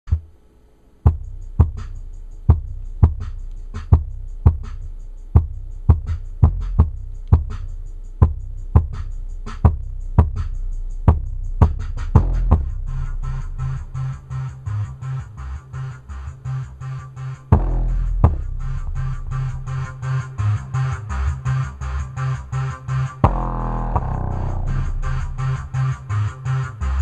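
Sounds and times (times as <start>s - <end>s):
bass-heavy electronic beat: 0.1s - 0.3s, 1.0s - 27.0s.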